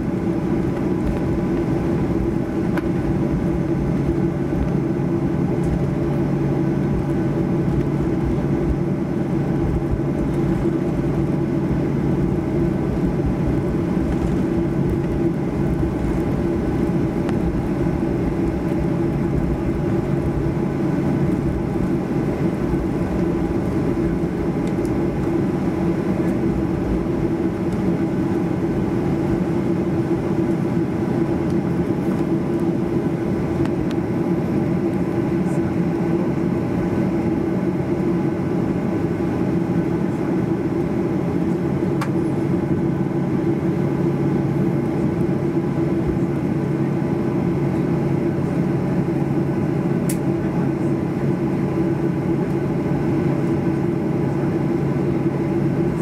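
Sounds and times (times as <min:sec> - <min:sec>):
airplane cabin engine hum: 0:00.0 - 0:56.0.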